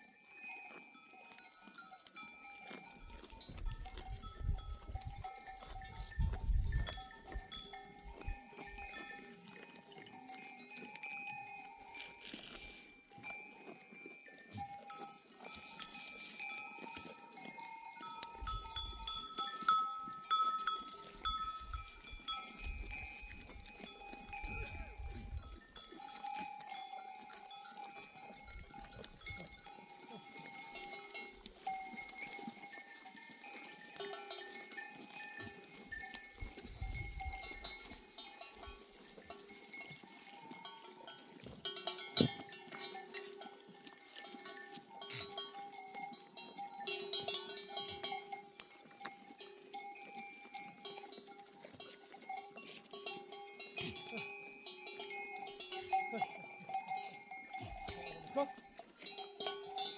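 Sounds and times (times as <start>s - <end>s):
sheep bells clanking: 0.0s - 59.9s.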